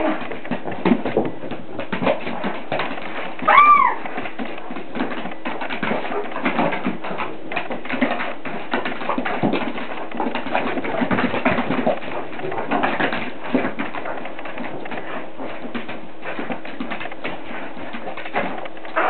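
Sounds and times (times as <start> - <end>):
scuffling: 0.0 - 19.0.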